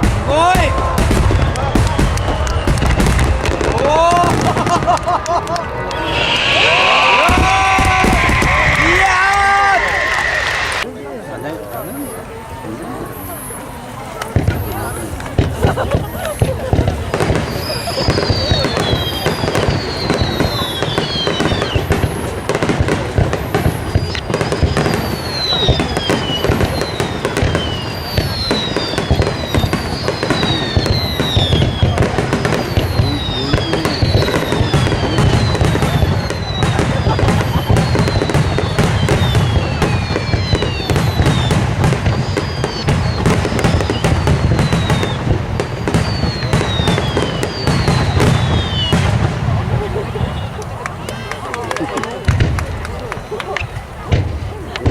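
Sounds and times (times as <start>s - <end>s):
firework whistle gliding down: 0.0s - 10.9s, 11.7s - 51.8s
fireworks bursting and crackling: 0.0s - 54.9s.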